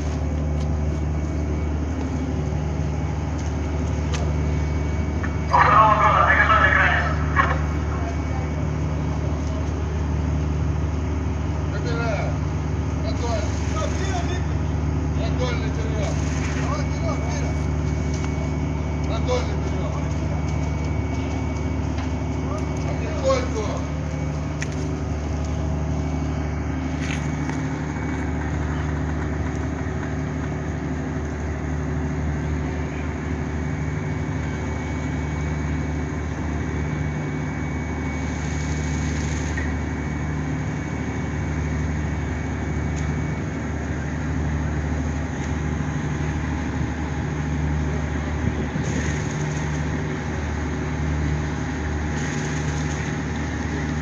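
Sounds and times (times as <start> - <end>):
large engine idling: 0.0 - 54.0.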